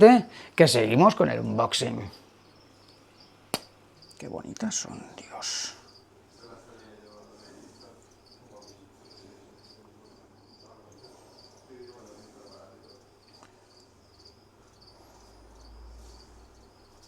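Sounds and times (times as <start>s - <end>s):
cricket chirping: 1.2s - 17.0s.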